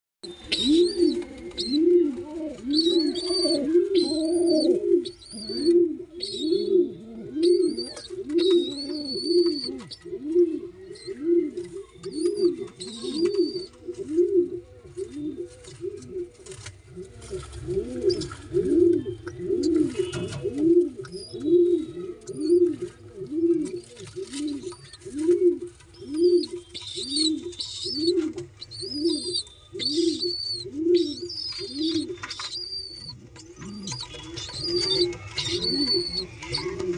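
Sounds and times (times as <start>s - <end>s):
pigeons cooing: 0.2s - 36.9s
squab begging peeps: 2.6s - 13.8s, 14.4s - 36.9s.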